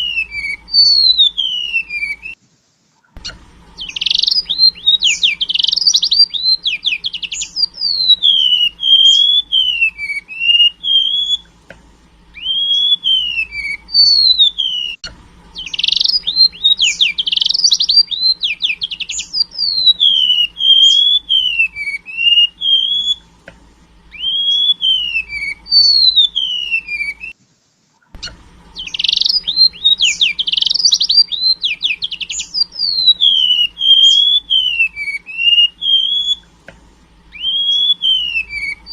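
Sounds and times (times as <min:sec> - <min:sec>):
bird singing trills and whistles: 0:00.0 - 0:02.4, 0:03.2 - 0:27.4, 0:28.2 - 0:38.9.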